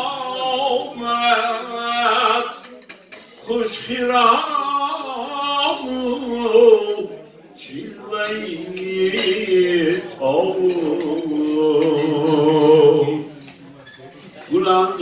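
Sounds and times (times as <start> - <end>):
man chanting into a microphone: 0.0 - 2.6, 3.4 - 13.3, 14.5 - 15.0.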